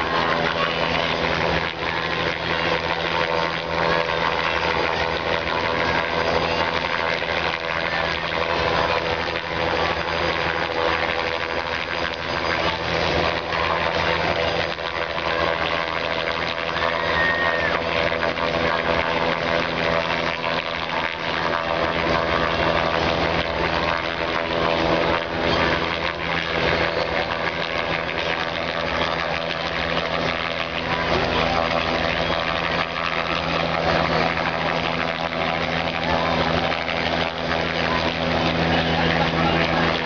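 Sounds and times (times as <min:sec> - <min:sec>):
helicopter hovering: 0:00.0 - 0:40.0.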